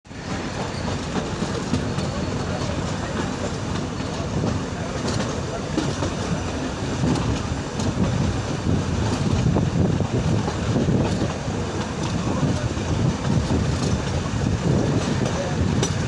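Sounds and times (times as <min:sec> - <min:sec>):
train rumbling by: 0:00.1 - 0:16.0
wheels clicking on track: 0:00.1 - 0:16.0.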